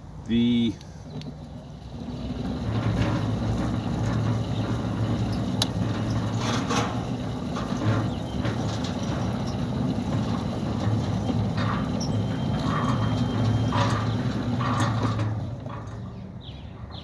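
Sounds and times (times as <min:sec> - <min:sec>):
sliding gate motor humming: 0:01.6 - 0:16.2.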